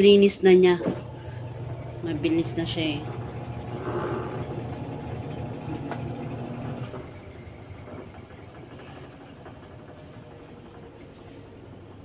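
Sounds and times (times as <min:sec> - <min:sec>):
washing machine tub spinning: 0:00.1 - 0:12.0
motor hum: 0:00.6 - 0:12.0.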